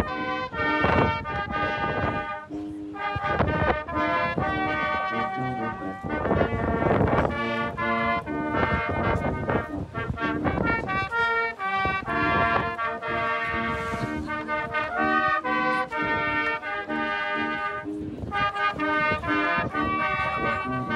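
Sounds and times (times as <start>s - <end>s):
brass band playing: 0.0s - 20.9s.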